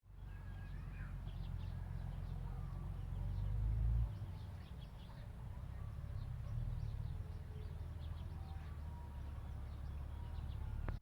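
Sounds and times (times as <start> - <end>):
faint bird chirps: 0.1 - 11.0.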